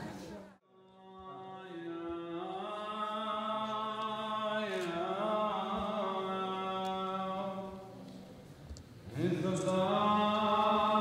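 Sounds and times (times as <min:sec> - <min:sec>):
slow chanting: 0:00.0 - 0:11.0.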